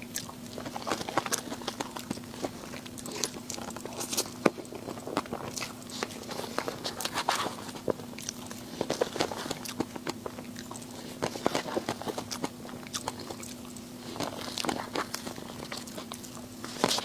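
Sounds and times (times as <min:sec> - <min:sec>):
faint hum: 0:00.0 - 0:17.0
person chewing crunchy food: 0:00.0 - 0:17.0.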